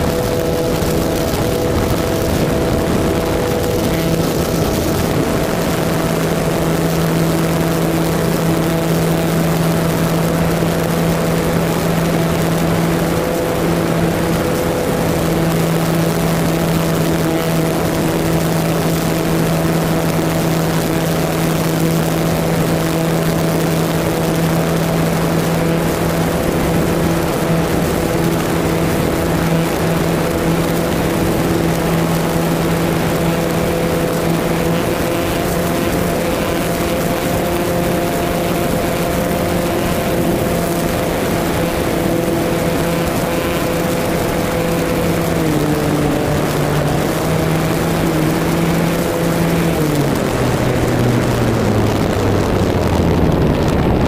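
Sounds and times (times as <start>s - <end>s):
model glider motor drone: 0.0s - 54.0s
wind noise: 0.0s - 54.0s.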